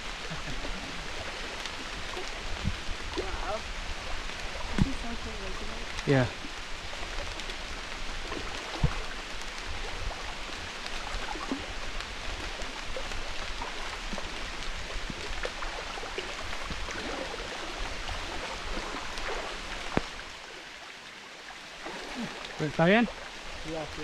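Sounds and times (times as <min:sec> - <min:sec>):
footsteps sloshing through water: 0:00.1 - 0:23.6
small knocks and splashes: 0:00.5 - 0:05.2, 0:05.8 - 0:20.9, 0:21.7 - 0:24.0.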